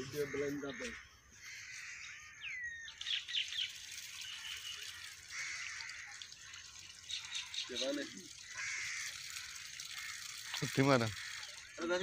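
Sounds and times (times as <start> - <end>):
birds chirping and calling: 0.0 - 12.0
water splashing and trickling: 0.0 - 12.0.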